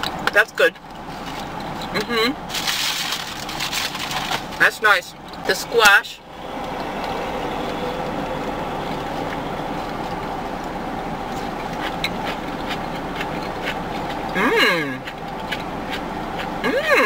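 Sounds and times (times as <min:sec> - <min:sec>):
vehicle running hum and hiss: 0:00.0 - 0:17.0.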